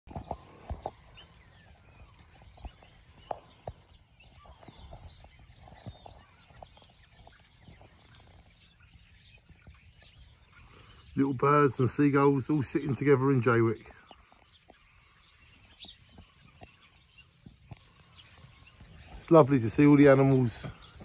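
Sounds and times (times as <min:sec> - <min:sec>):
small birds chirping and whistling: 0:00.1 - 0:21.0.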